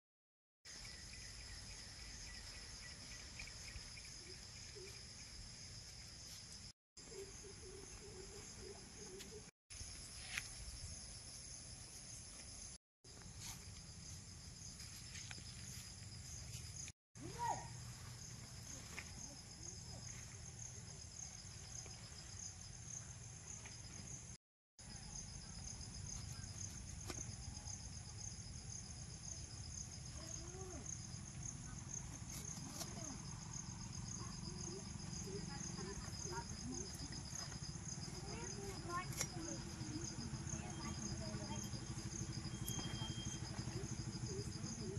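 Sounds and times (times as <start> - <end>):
insects chirring: 0.7 - 44.9.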